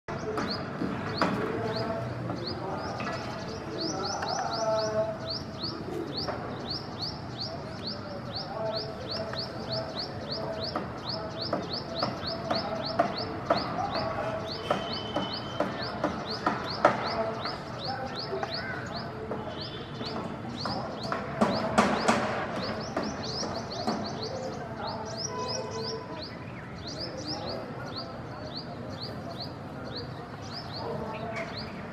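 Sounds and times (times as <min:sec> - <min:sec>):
steady background noise: 0:00.1 - 0:31.9.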